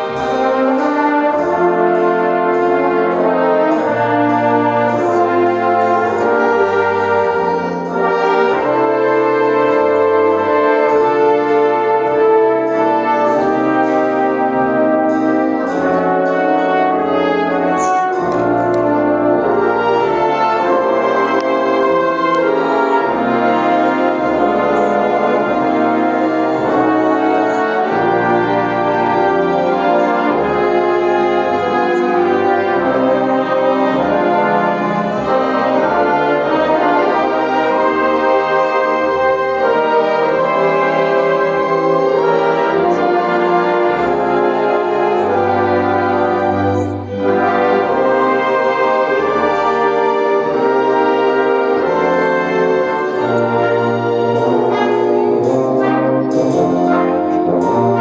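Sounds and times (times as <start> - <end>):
slow sustained harmony chords: 0.0 - 58.0.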